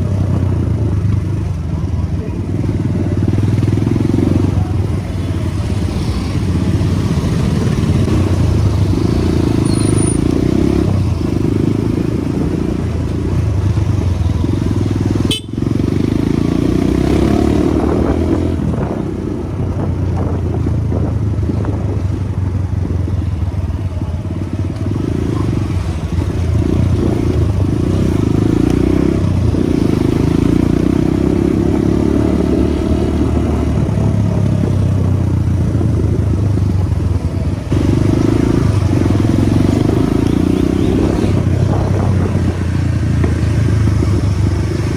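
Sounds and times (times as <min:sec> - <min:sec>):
motorcycle engine running: 0:00.0 - 0:44.9
road and wind noise: 0:00.0 - 0:44.9.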